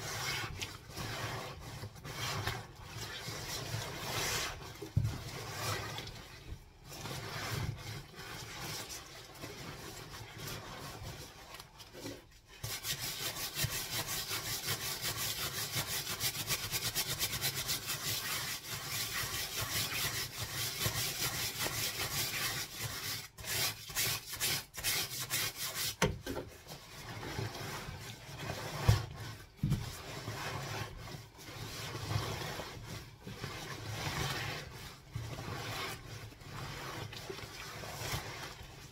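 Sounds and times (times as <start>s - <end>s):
bristle brush scrubbing wet fabric: 0.0s - 38.9s
rubbing and squeezing wet fabric: 0.0s - 38.9s.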